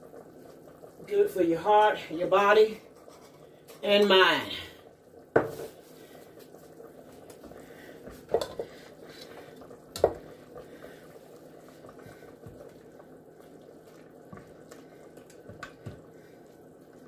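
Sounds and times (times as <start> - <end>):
food simmering in a pot: 0.0 - 17.0.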